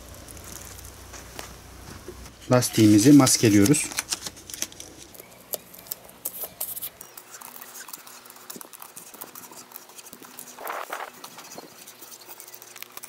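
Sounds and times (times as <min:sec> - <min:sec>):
masking tape crackling and rustling: 0:00.0 - 0:13.0.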